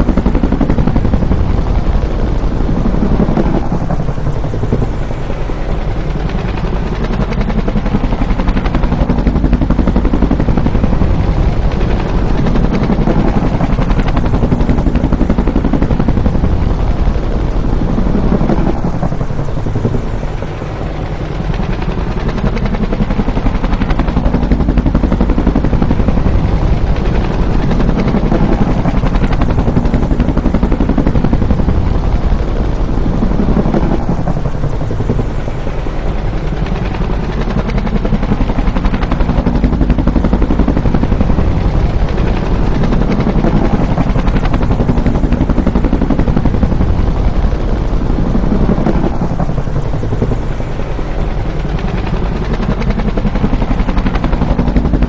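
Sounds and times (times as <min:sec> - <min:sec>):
helicopter rotor chopping: 0:00.0 - 0:55.0.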